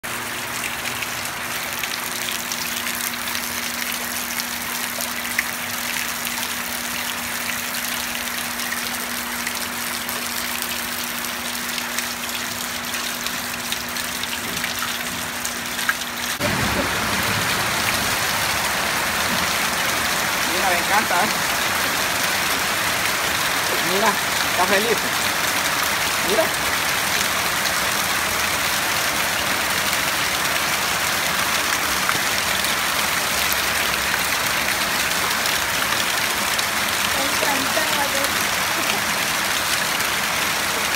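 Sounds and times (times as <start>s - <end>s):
heavy rain: 0.0s - 40.9s
pouring water splashing: 0.0s - 40.9s
rush of water: 0.0s - 40.9s.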